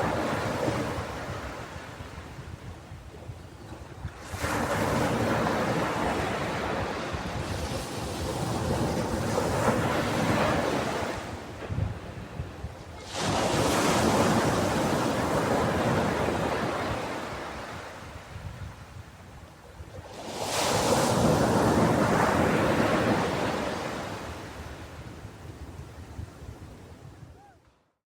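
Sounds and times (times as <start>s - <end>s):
ocean waves breaking on beach: 0.0s - 27.6s.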